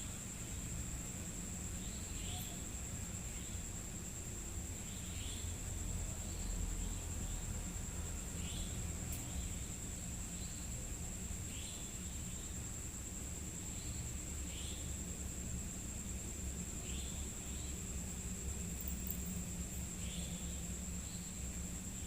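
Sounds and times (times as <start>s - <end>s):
crickets droning: 0.0s - 22.0s
short insect chirps: 0.0s - 22.0s.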